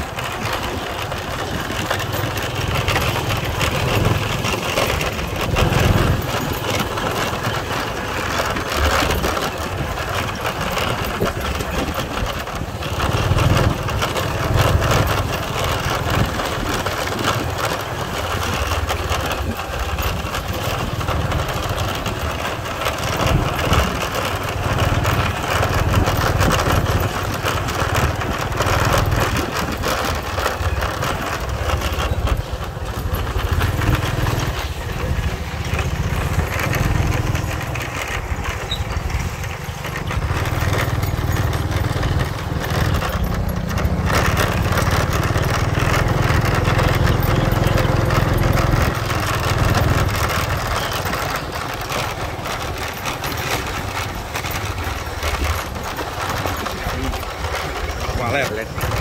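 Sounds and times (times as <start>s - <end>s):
constant noisy hiss: 0.0s - 59.0s
small motorcycle engine: 0.0s - 59.0s.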